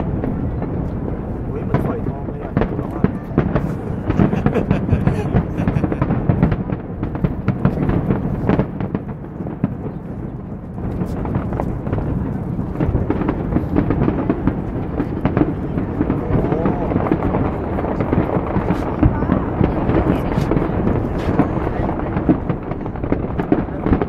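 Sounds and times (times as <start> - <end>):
distant fireworks booming: 0.0 - 24.0
fireworks sharp cracks: 0.0 - 24.0.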